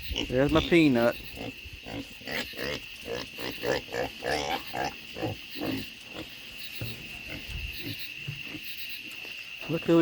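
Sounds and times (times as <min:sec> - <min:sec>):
pigs grunting: 0:00.0 - 0:08.8
crickets trilling: 0:00.0 - 0:10.0.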